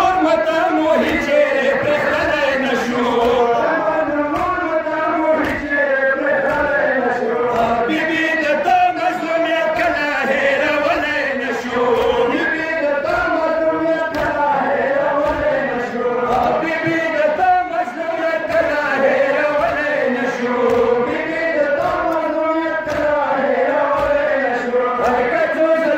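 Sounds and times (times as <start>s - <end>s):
men chanting a lament: 0.0s - 25.9s.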